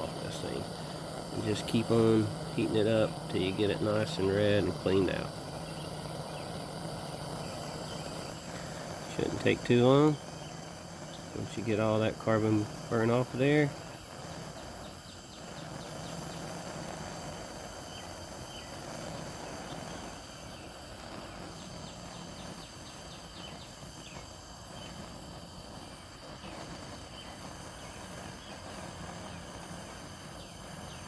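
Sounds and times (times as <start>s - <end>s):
insects chirping: 0.0s - 31.0s
torch flame hissing: 0.0s - 31.0s.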